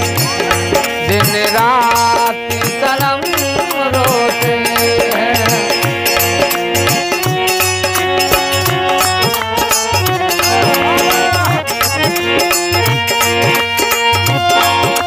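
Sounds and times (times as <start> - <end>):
dholak drum beat: 0.0 - 15.0
harmonium melody: 0.0 - 15.0.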